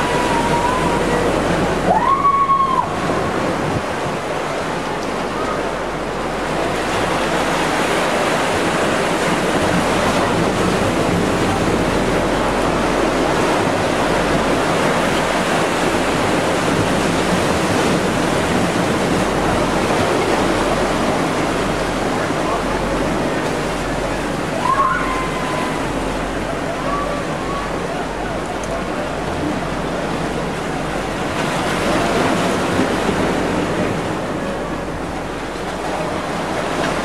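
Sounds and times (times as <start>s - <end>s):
sea surf rushing: 0.0s - 37.0s.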